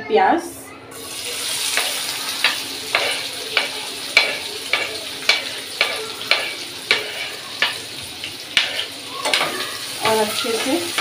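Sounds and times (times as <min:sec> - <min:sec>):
onion sizzling in hot oil: 0:00.9 - 0:11.0.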